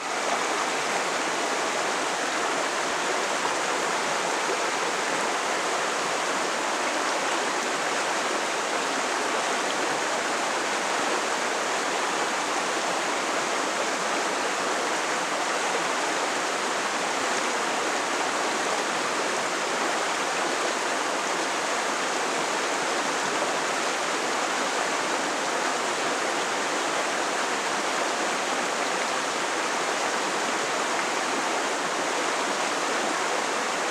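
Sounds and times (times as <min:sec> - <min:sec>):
creek water rushing over rocks: 0:00.0 - 0:33.9.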